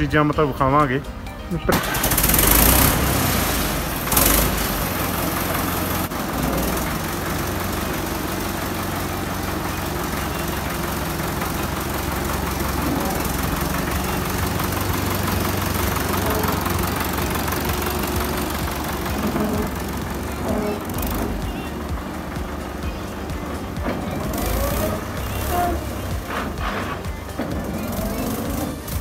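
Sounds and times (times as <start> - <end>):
tractor diesel engine idling: 0.0 - 29.0.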